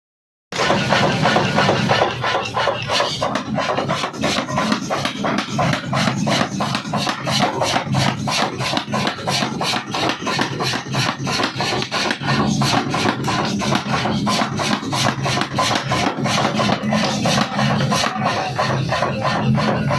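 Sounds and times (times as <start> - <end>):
mechanical forging hammer pounding: 0.5 - 19.9.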